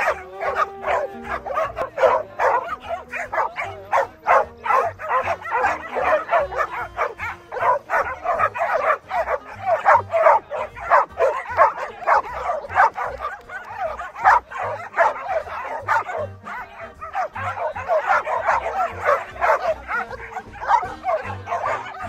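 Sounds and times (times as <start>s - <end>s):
dogs barking excitedly: 0.0s - 22.0s.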